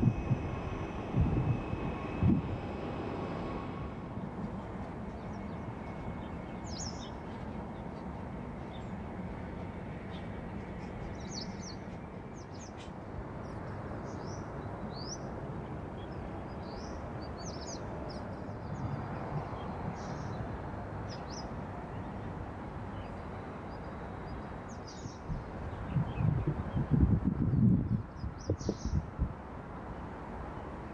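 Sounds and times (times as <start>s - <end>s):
distant aircraft rumble: 0.0s - 27.6s.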